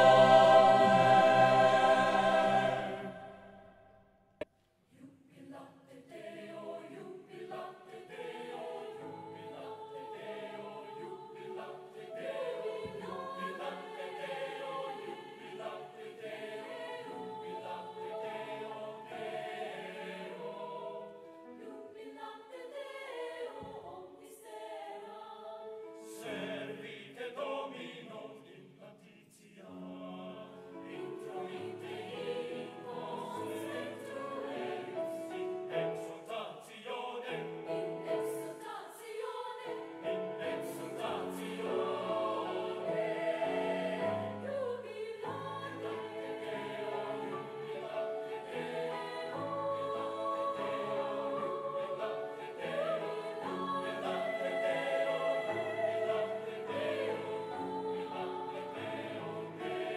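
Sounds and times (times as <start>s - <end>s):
mixed choir singing in harmony: 0.0s - 3.9s, 4.9s - 59.9s.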